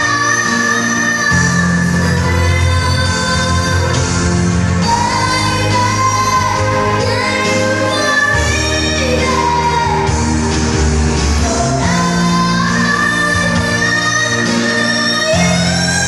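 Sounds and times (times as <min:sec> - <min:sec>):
backing music with bass line: 0:00.0 - 0:16.0.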